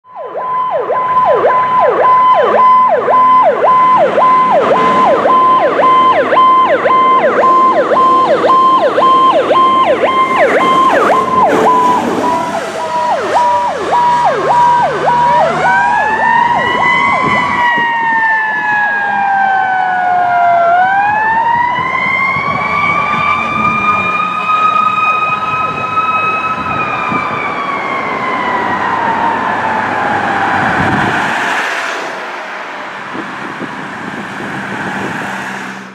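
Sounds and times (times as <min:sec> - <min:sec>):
fire engine siren: 0:00.0 - 0:35.9.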